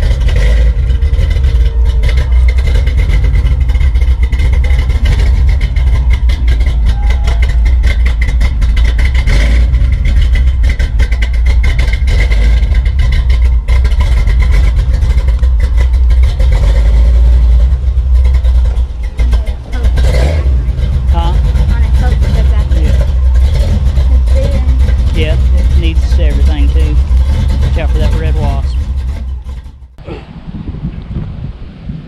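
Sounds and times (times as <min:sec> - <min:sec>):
pickup truck engine rumbling: 0:00.0 - 0:32.0.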